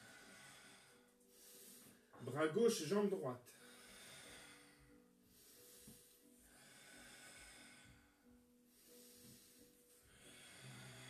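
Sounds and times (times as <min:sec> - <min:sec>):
faint airy exhalations: 0:00.0 - 0:02.4, 0:03.5 - 0:11.0.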